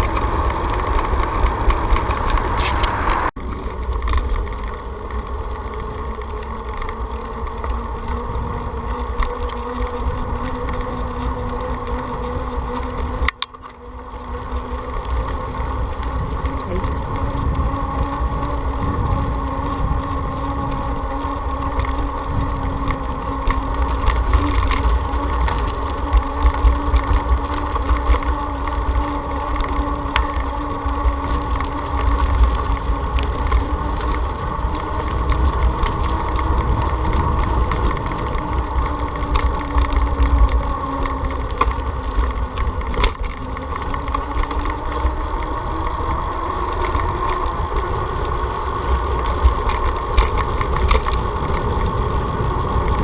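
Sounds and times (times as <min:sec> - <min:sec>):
motorcycle engine and road drone: 0:00.0 - 0:53.0
wind buffeting microphone: 0:00.0 - 0:53.0.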